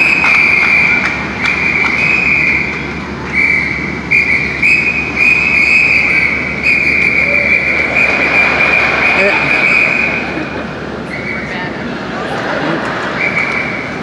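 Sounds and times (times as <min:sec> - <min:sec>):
shrill whistle notes: 0:00.0 - 0:10.3, 0:11.1 - 0:11.6, 0:13.2 - 0:14.0.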